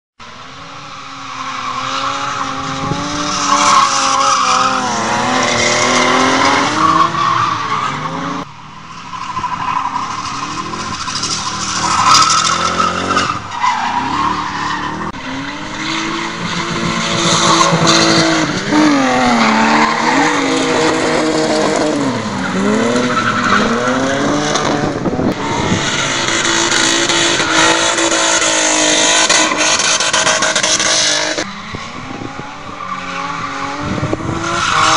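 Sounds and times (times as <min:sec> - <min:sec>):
car engines revving: 0:00.2 - 0:34.9.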